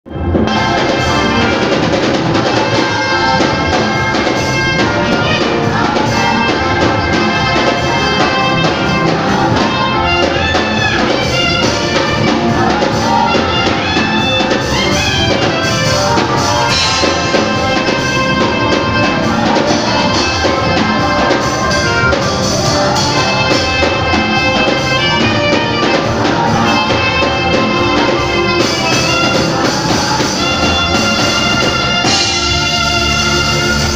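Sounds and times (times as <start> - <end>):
saxophone melody: 0.1 - 33.9
upbeat gospel band: 0.1 - 33.9.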